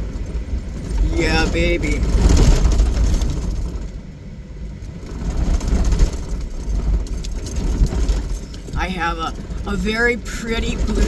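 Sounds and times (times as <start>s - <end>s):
off-road vehicle engine rumble: 0.0s - 11.0s
vehicle rattling: 0.0s - 11.0s.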